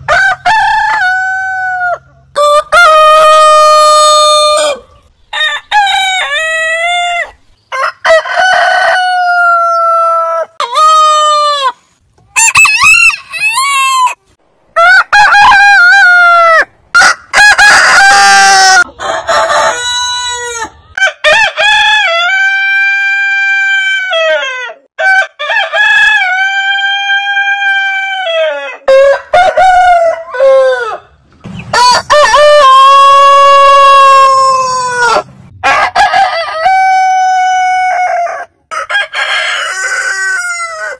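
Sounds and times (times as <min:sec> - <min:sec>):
roosters crowing: 0:00.0 - 0:14.2, 0:14.8 - 0:40.9.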